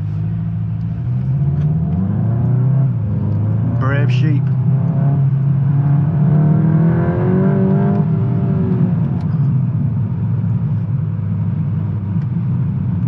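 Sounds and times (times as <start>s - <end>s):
car engine accelerating: 0.0s - 13.0s
engine and tyre rumble: 0.0s - 13.0s.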